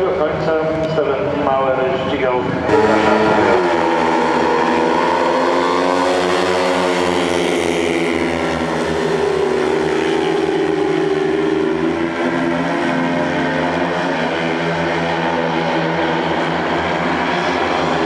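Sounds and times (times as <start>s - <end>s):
motorcycle engines at full throttle: 0.0s - 18.0s.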